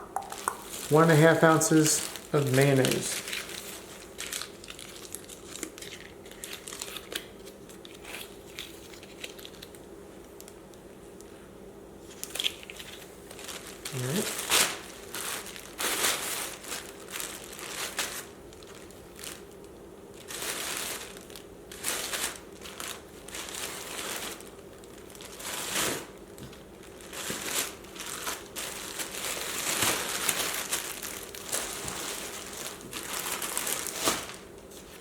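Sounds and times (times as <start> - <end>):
packaging crinkling and rustling: 0.2 - 10.9, 12.1 - 35.0.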